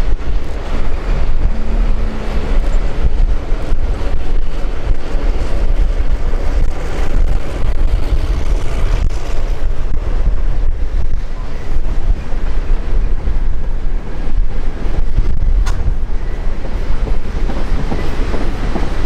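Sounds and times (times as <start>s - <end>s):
diesel train rolling past: 0.0s - 19.0s
wind buffeting microphone: 0.0s - 19.0s.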